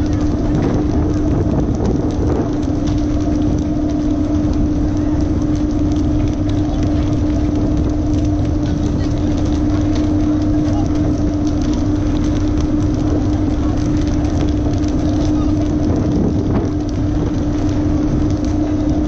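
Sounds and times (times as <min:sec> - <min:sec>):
boat engine humming: 0:00.0 - 0:19.0
water rushing: 0:00.0 - 0:19.0.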